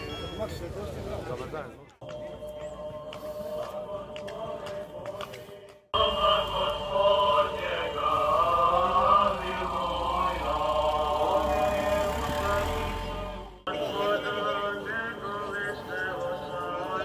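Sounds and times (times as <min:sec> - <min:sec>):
group chanting a hymn: 0:02.0 - 0:17.0.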